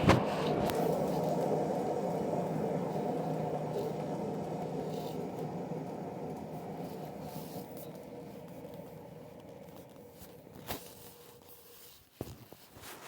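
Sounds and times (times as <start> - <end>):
washing machine spinning: 0.0 - 12.2.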